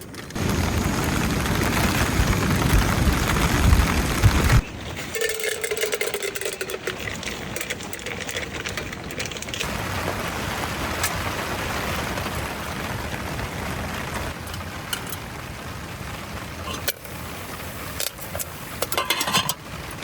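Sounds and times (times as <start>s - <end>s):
heavy rain on a tent: 0.0s - 20.0s.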